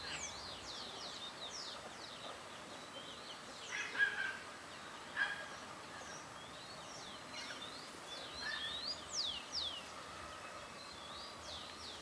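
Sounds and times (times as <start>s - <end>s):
birds chirping: 0.0s - 12.0s
outdoor background hiss: 0.0s - 12.0s.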